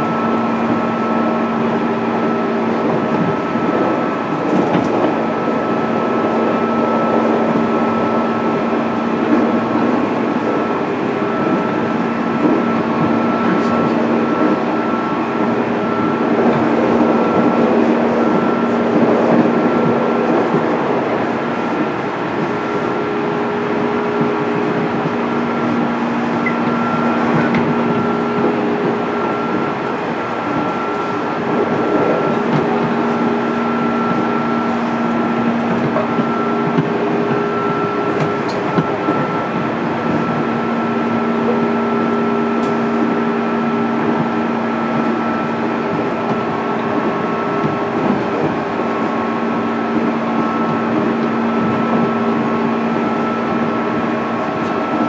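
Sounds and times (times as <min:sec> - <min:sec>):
electric train motors humming: 0:00.0 - 0:55.0
wheels rumbling on rail: 0:00.0 - 0:55.0.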